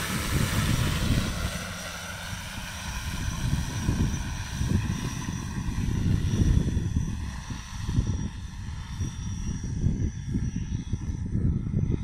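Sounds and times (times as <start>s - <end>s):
drone propellers humming: 0.0s - 12.0s
gusting low rumble: 0.0s - 12.0s.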